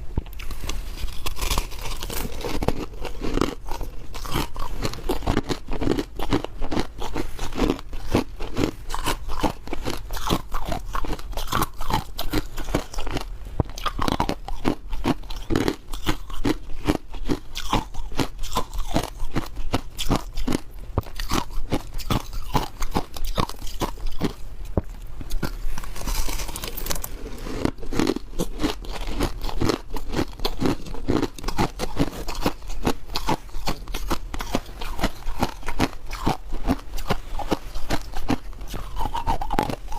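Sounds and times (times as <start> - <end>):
ice crunching while chewed: 0.4 - 39.9.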